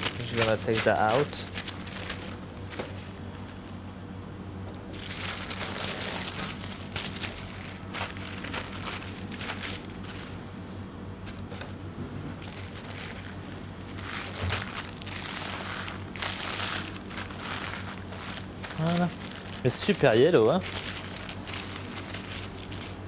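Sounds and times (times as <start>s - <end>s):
parchment paper rustling and crinkling: 0.0s - 4.0s, 4.9s - 10.4s, 12.4s - 23.0s
steady low hum: 0.0s - 23.0s.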